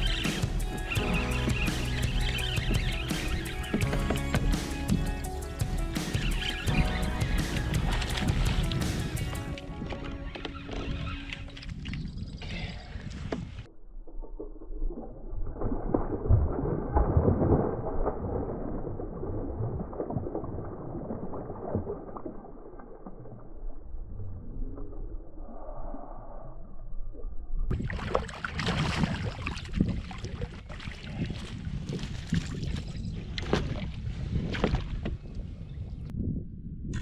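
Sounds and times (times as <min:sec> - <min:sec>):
water splashing and sloshing: 0:00.0 - 0:25.4, 0:27.7 - 0:36.1.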